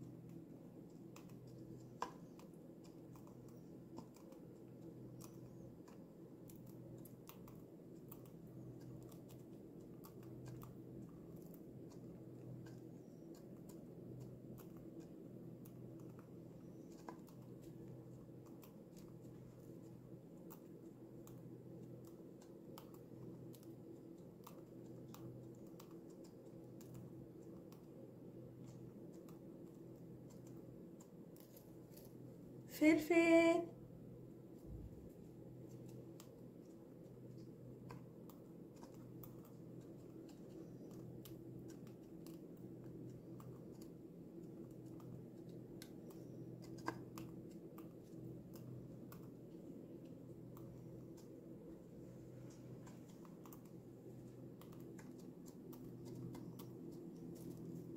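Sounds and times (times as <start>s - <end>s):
bird beak clicking on seeds: 0.0s - 32.7s, 35.1s - 57.9s
low steady hum: 0.0s - 57.9s.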